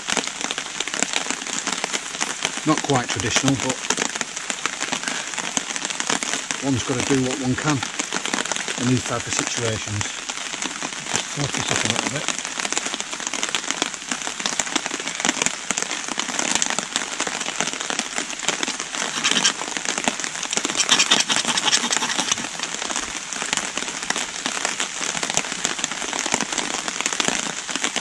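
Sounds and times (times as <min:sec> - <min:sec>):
heavy rain on woodland: 0:00.0 - 0:28.0.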